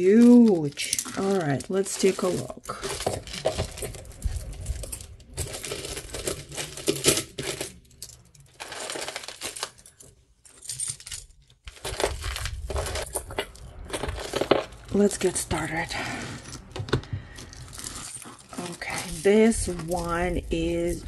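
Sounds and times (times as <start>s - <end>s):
jewelry clinking and rattling: 0.0s - 21.0s.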